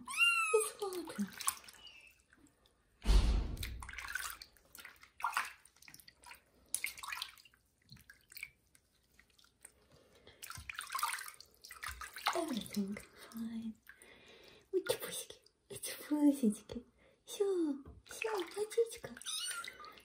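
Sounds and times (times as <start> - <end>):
water splashing in a sink: 0.0 - 16.0, 17.7 - 20.0.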